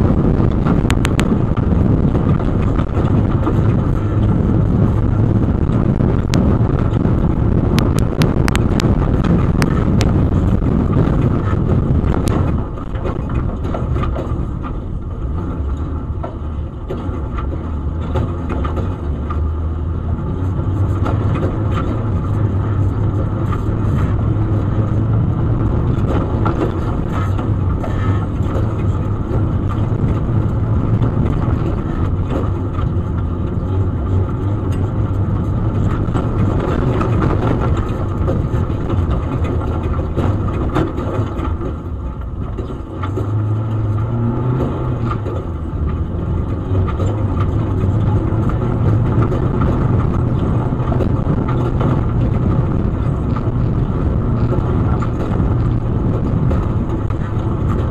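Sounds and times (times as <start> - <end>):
vehicle engine running: 0.0 - 57.9
vehicle rattles and knocks: 0.0 - 57.9.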